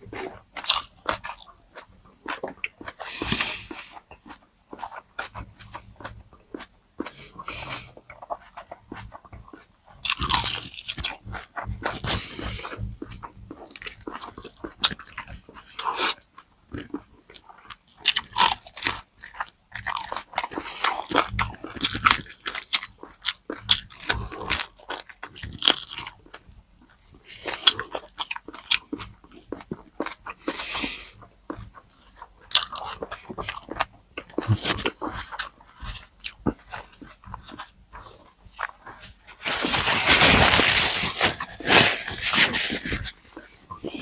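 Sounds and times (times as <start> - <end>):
chewing: 0.0 - 44.0
crunchy food crunching: 0.0 - 44.0.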